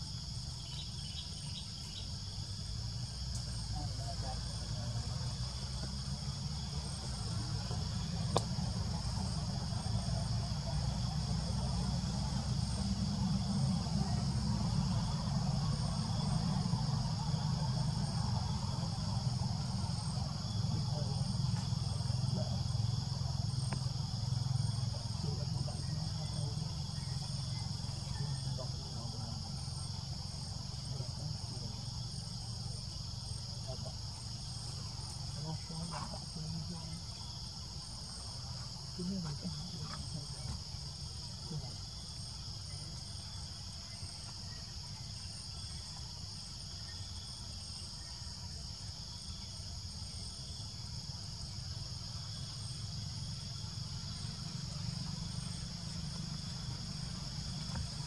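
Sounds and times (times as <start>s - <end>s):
insects buzzing: 0.0s - 58.0s.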